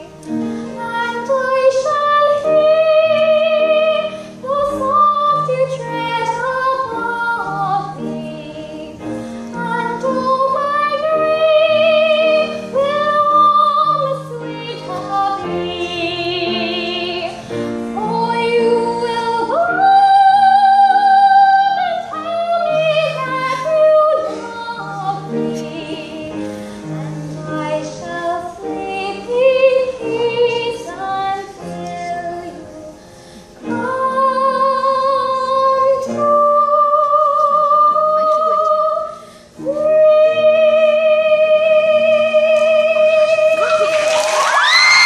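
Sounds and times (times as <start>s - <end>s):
girl singing: 0.0s - 33.0s, 33.6s - 44.0s.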